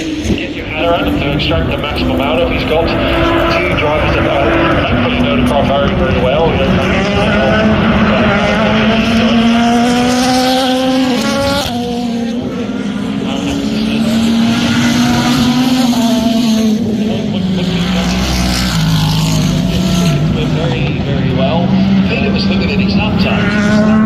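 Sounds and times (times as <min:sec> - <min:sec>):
race car engine at high revs: 0:00.0 - 0:24.0.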